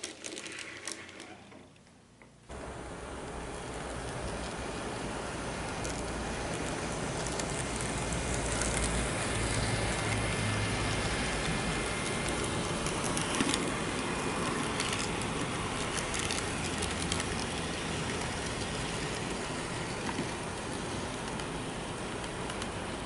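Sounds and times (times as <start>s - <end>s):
wheels clicking on rails: 0.0s - 23.0s
model train running on track: 2.5s - 23.0s.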